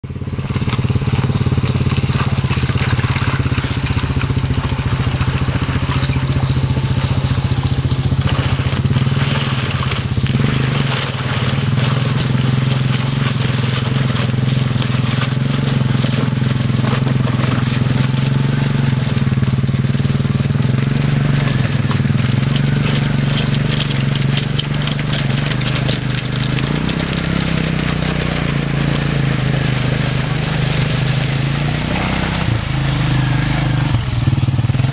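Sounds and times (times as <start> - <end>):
quad engine running: 0.0 - 34.9.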